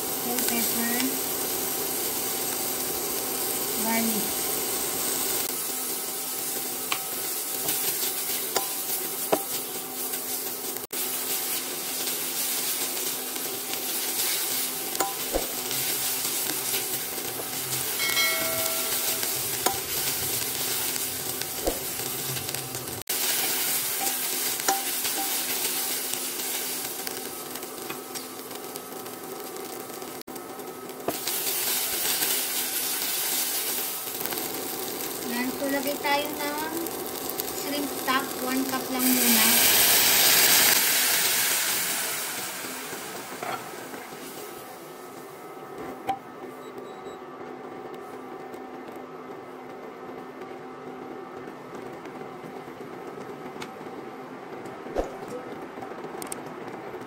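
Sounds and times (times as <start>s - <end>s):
vegetables sizzling in oil: 0.0s - 46.2s.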